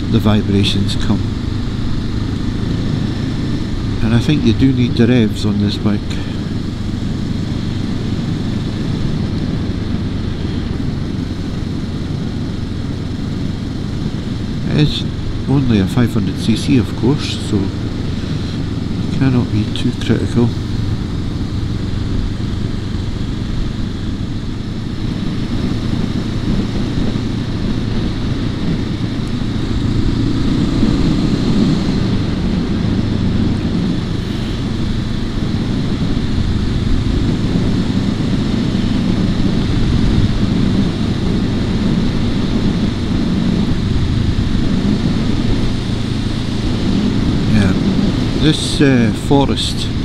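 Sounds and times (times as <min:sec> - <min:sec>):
motorcycle engine cruising: 0:00.0 - 0:50.0
road and wind noise: 0:00.0 - 0:50.0.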